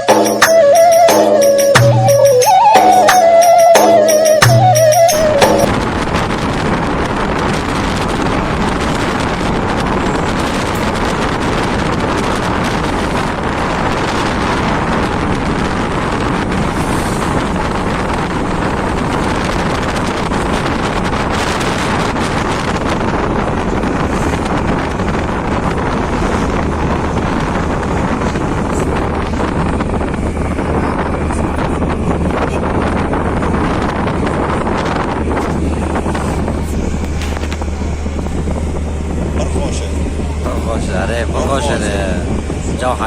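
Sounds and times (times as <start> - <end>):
low engine hum: 0.0 - 43.0
wind buffeting microphone: 0.0 - 43.0.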